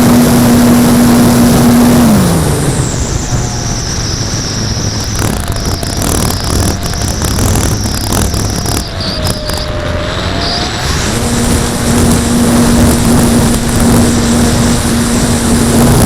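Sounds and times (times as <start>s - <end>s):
model plane electric motor whine: 0.0s - 16.0s
wind buffeting microphone: 0.0s - 16.0s.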